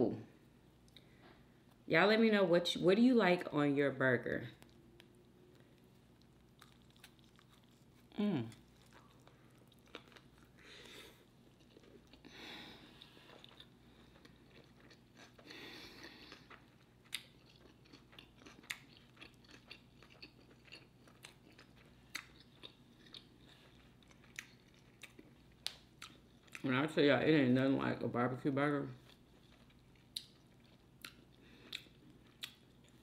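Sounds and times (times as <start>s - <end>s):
soft wet chewing: 0.4s - 1.8s, 4.5s - 27.0s, 28.8s - 33.0s.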